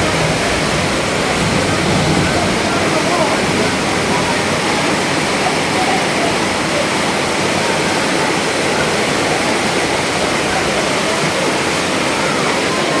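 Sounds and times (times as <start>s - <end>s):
heavy rain and rushing water: 0.0s - 13.0s.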